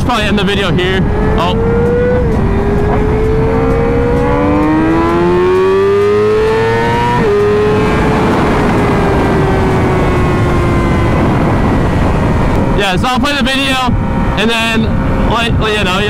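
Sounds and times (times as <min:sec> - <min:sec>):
motorcycle engine accelerating: 0:00.0 - 0:16.0
wind rushing: 0:00.0 - 0:16.0.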